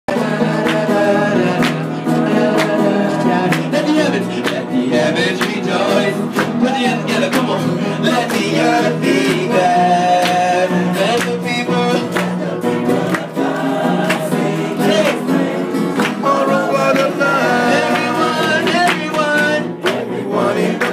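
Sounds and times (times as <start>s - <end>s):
gospel music with singing: 0.1s - 20.9s.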